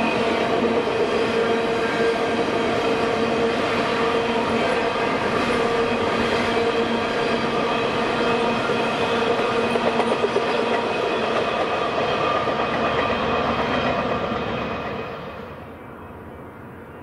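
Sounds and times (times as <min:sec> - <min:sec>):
train wheels clattering on rails: 0:00.0 - 0:15.7
high ringing of rails: 0:00.0 - 0:17.0
train rumble: 0:00.0 - 0:17.0.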